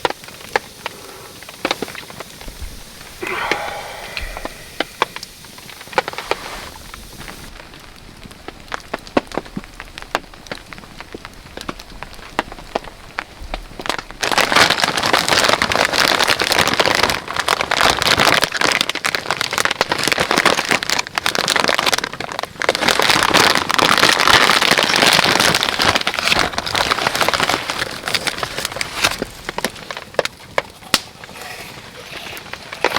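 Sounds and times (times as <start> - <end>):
rain pattering on a tarp: 0.0 - 32.9.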